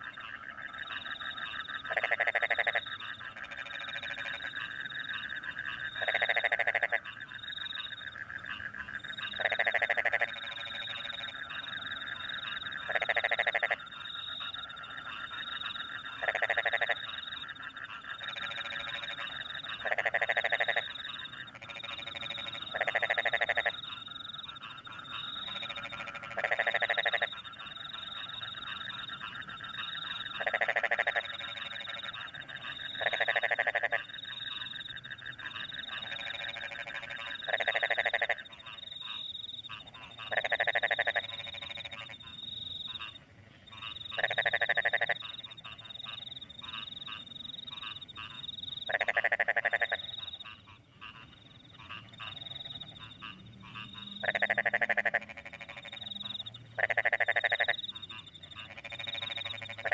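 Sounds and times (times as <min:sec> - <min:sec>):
crickets chirping: 0:00.0 - 0:50.7, 0:51.3 - 0:59.9
frogs chorus: 0:00.0 - 0:59.9
loud pulsed frog croak: 0:00.0 - 0:59.9.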